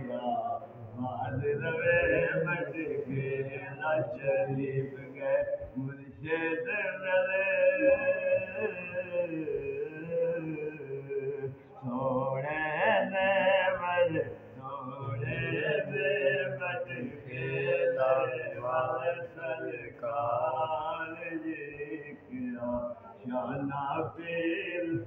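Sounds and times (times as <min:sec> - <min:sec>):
man singing devotional song: 0:00.0 - 0:25.0.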